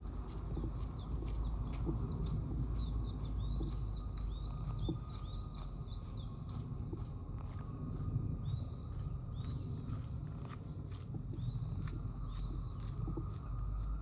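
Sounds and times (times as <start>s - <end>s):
low background rumble: 0.0s - 14.0s
small birds chirping: 0.0s - 14.0s.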